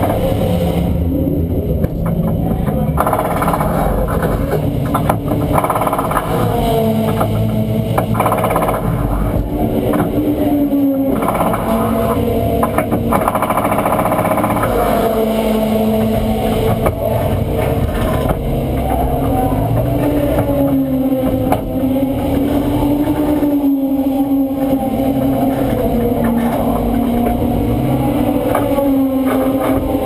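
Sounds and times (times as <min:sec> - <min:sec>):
race car engine idling: 0:00.0 - 0:30.0.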